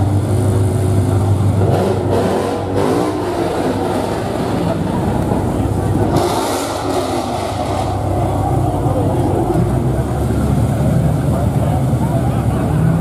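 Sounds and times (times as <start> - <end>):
people talking: 0.0 - 13.0.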